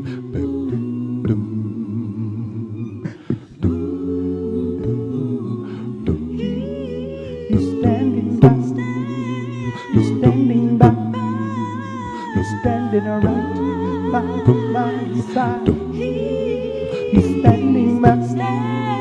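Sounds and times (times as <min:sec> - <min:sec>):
vocal group singing chords: 0:00.0 - 0:19.0.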